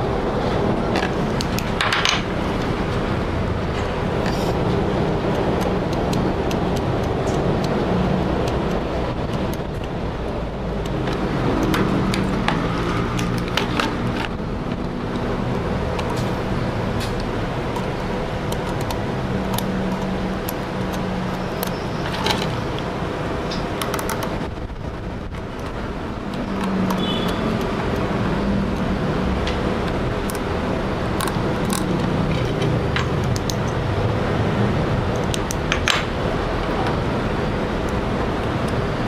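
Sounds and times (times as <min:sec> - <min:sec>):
traffic rumble: 0:00.0 - 0:39.0
probe leads clicking and tapping: 0:00.9 - 0:34.1, 0:34.7 - 0:39.0.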